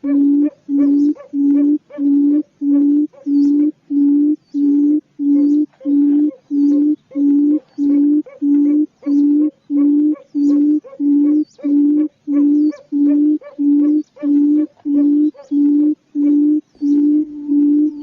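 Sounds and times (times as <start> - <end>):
faint high bird chirps: 0.0 - 18.0
quail hooting calls: 0.0 - 18.0.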